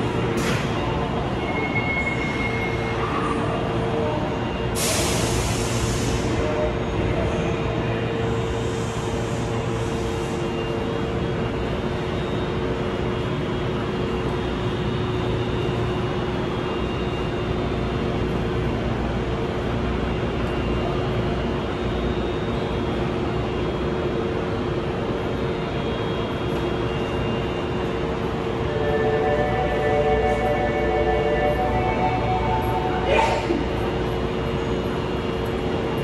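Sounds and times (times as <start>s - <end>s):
subway train equipment hum: 0.0s - 36.0s.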